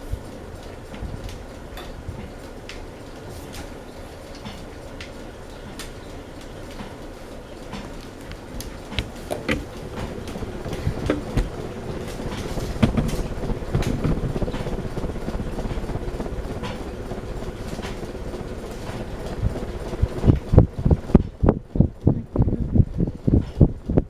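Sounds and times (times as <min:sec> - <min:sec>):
ceiling fan rushing: 0:00.0 - 0:24.0
faint motor hum: 0:00.0 - 0:24.0.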